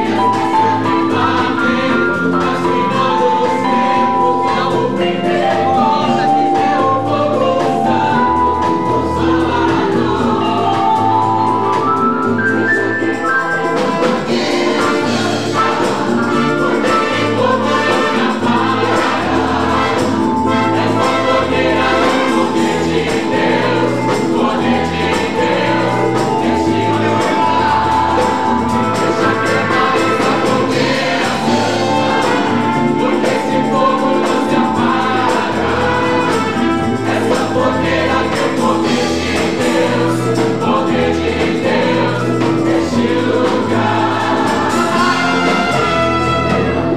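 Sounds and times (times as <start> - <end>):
band playing: 0.0 - 46.9
bass line: 0.0 - 46.9
gospel choir singing: 0.0 - 46.9.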